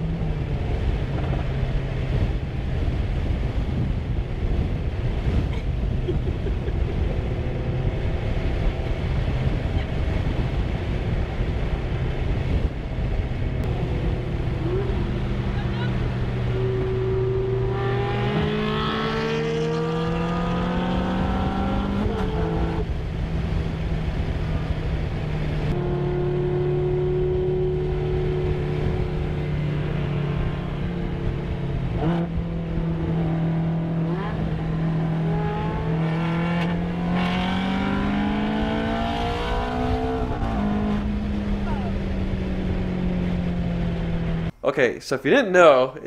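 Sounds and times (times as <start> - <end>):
car engine accelerating: 0.0 - 44.5.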